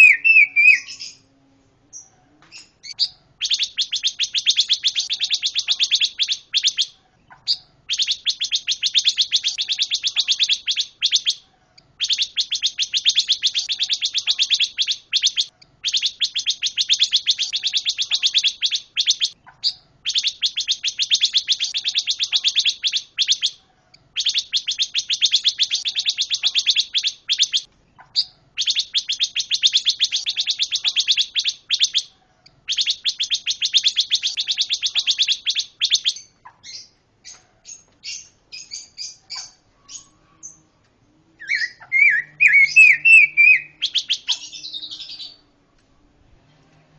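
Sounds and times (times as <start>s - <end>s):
songbird chattering: 0.0s - 1.2s, 1.9s - 40.6s, 41.4s - 45.4s.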